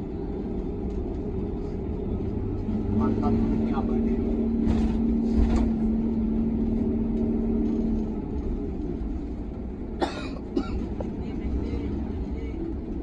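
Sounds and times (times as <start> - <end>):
bus engine and road rumble: 0.0 - 13.0
low hum: 0.0 - 13.0.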